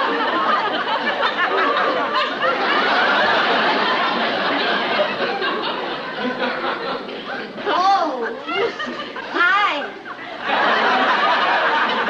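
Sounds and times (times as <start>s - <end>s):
studio audience laughing: 0.0s - 7.7s, 8.4s - 12.0s.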